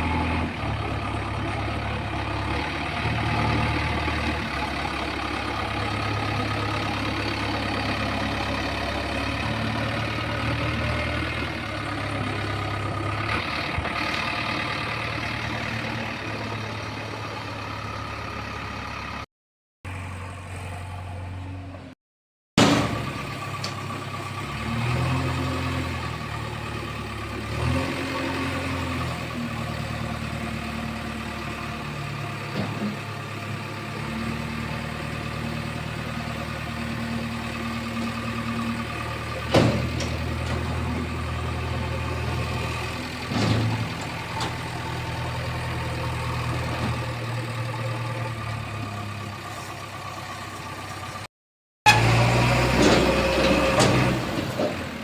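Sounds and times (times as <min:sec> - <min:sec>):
diesel engine running: 0:00.0 - 0:19.2, 0:22.8 - 0:51.3.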